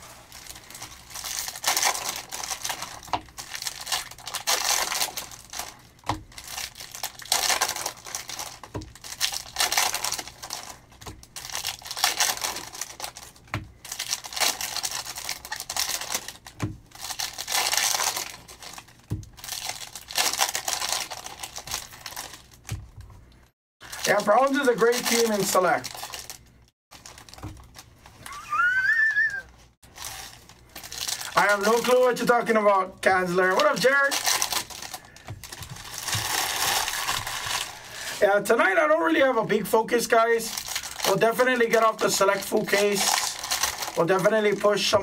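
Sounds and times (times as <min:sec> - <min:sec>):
foil wrappers crinkling and tearing: 0:00.0 - 0:23.2, 0:23.8 - 0:29.0, 0:29.8 - 0:45.0.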